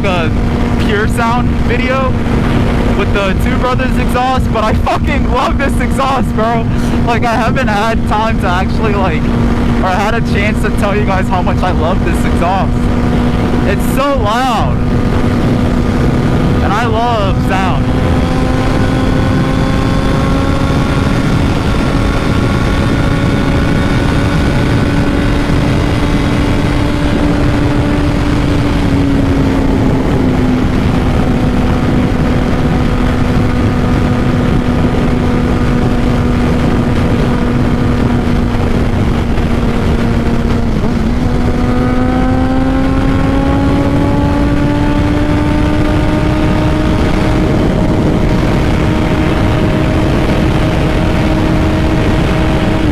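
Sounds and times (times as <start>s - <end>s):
motorcycle engine revving high: 0.0s - 52.9s
wind noise: 0.0s - 52.9s.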